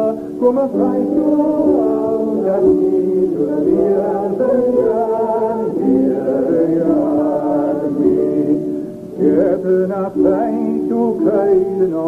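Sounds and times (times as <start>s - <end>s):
person singing with long held notes: 0.0s - 12.0s.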